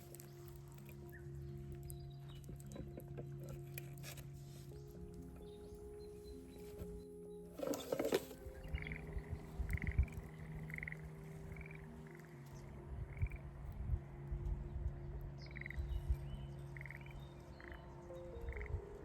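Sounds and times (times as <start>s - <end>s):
tree frogs trilling: 0.0s - 14.2s, 15.3s - 19.0s.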